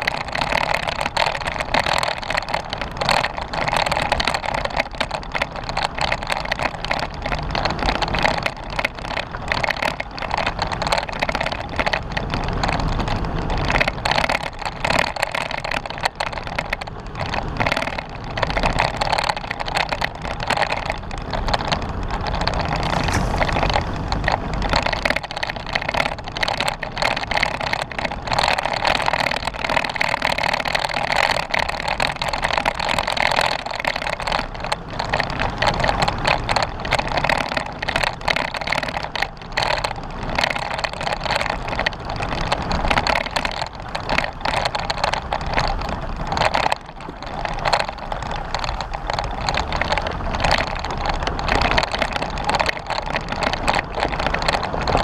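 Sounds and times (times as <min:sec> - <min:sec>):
clatters and rattles: 0:00.0 - 0:55.0
vehicle rumbling over rough ground: 0:00.0 - 0:55.0.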